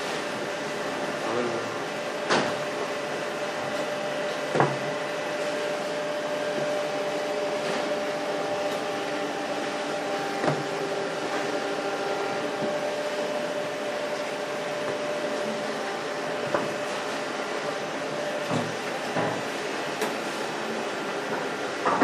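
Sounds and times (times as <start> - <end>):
machine motor hum: 0.0 - 22.0.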